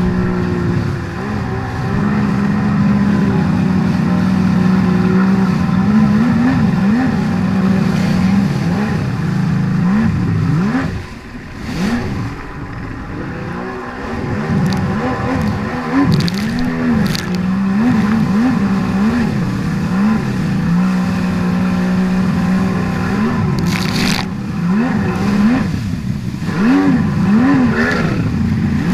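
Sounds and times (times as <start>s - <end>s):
watercraft engine revving: 0.0s - 28.9s.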